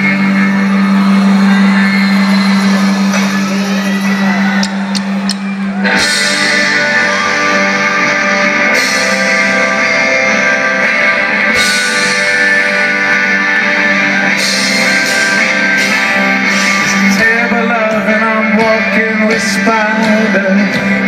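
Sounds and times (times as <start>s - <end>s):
electric guitars: 0.0s - 21.0s
live rock band through pa: 0.0s - 21.0s.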